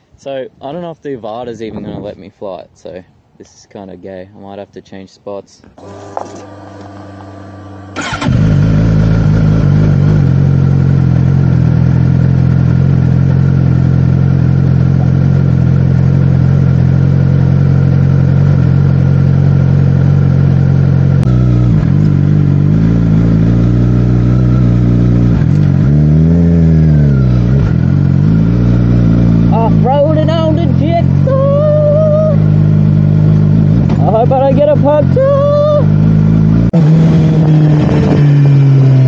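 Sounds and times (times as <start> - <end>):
motorcycle engine revving: 5.8 - 39.0
motorcycle engine starting and idling: 5.8 - 39.0.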